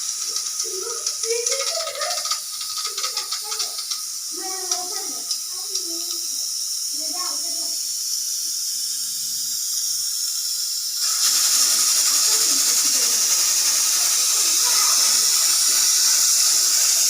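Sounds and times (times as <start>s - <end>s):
pressure cooker hissing: 0.0s - 17.0s.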